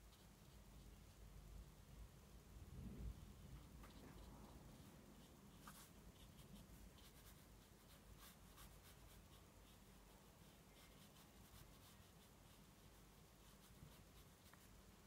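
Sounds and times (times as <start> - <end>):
brush dabbing paint on paper: 0.0 - 1.5, 3.0 - 15.0.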